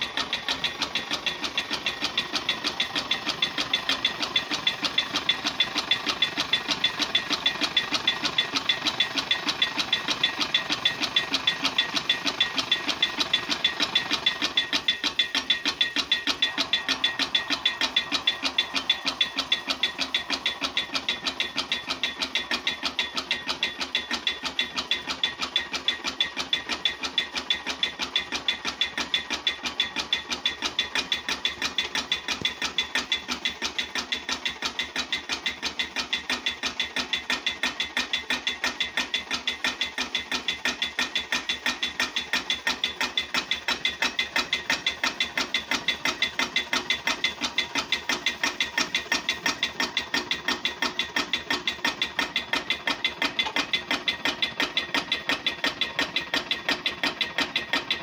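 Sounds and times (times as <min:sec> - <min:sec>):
hot-air engine knocking: 0:00.0 - 0:58.0.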